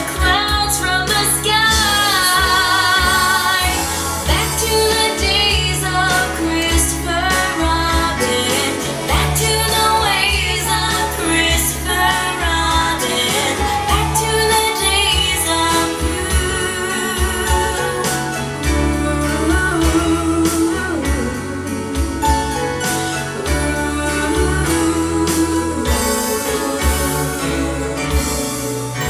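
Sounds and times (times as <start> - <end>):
person singing: 0.0 - 29.0
soft pop song over speakers: 0.0 - 29.0
strong bass line: 0.0 - 29.0.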